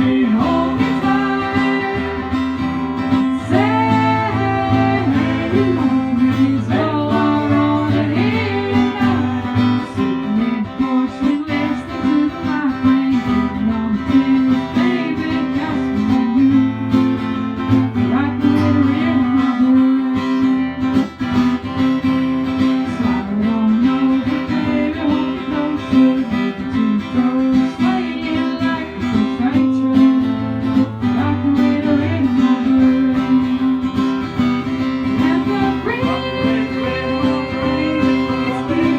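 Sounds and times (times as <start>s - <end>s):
strummed acoustic guitar music: 0.0s - 38.9s.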